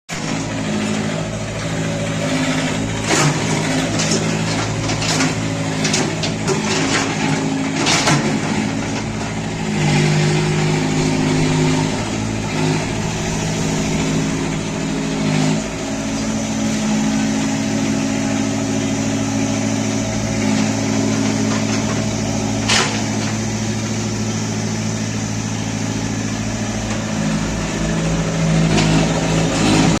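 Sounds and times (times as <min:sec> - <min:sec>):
vehicle engine running: 0:00.1 - 0:30.0.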